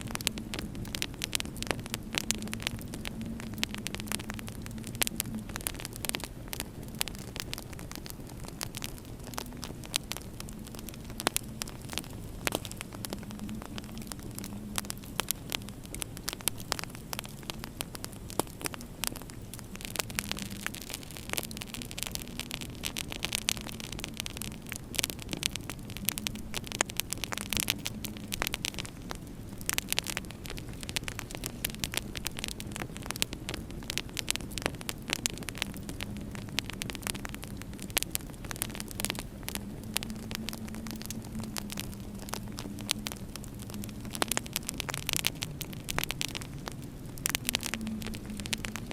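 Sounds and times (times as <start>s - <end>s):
steady low hum: 0.0s - 48.9s
wood fire crackling: 0.0s - 48.9s.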